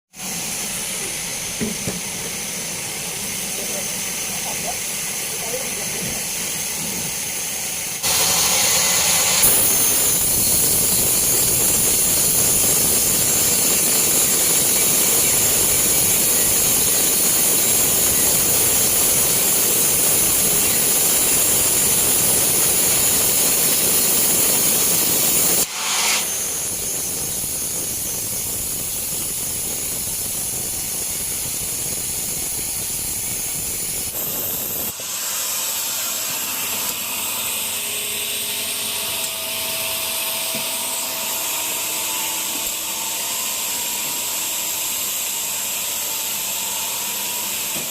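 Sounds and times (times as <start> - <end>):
band saw cutting through log: 0.2 - 47.9.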